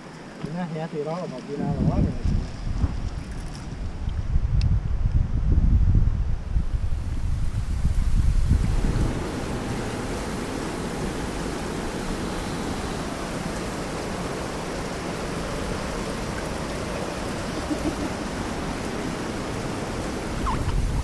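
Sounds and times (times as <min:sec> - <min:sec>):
rushing river water: 0:00.0 - 0:04.3, 0:06.8 - 0:21.0.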